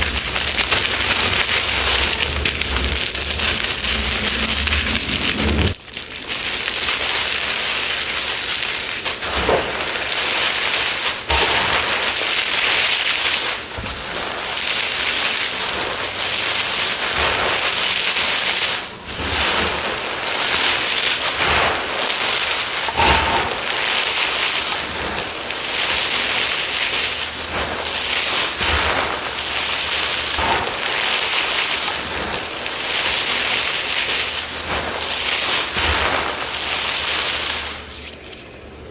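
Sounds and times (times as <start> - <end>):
crunchy material being crushed: 0.0 - 38.3.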